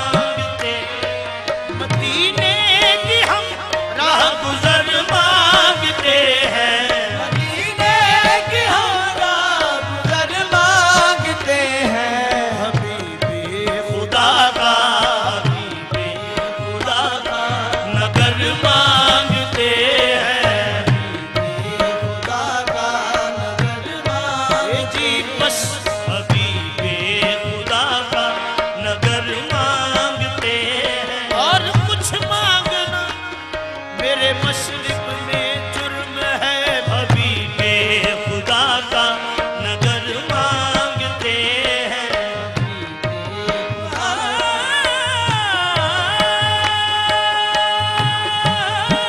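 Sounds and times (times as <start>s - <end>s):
harmonium: 0.0s - 49.0s
men singing with chorus: 0.0s - 49.0s
tabla beat: 0.0s - 49.0s.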